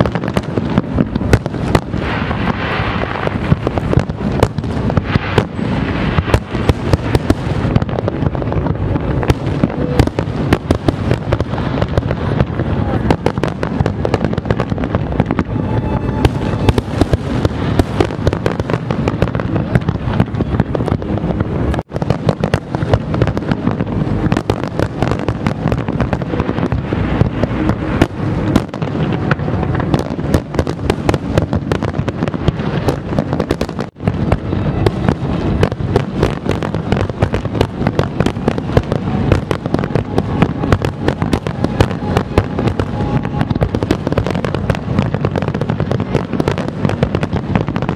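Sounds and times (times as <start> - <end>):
fireworks bangs and crackle: 0.0 - 47.9.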